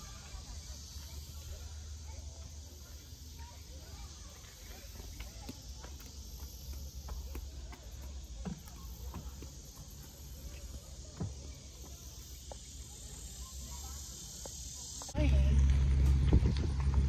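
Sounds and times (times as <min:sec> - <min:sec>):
insects buzzing: 0:00.0 - 0:16.2.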